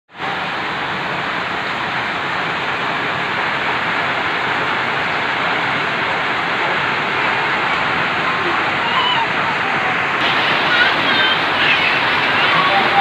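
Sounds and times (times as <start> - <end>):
heavy rain on a tile roof: 0.1 - 13.0.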